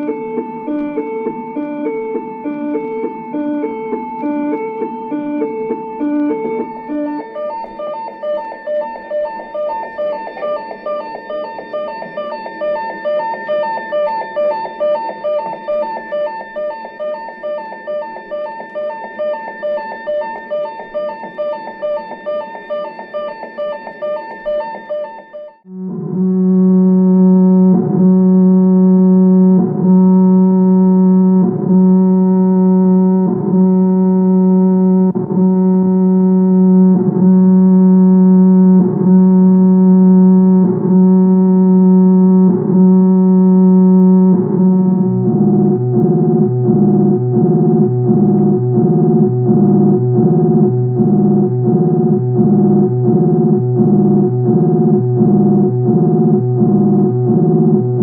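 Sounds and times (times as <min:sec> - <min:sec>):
alternating pulsing tones: 0:00.0 - 0:25.0, 0:25.6 - 0:58.0
computer electronic hum: 0:00.0 - 0:58.0.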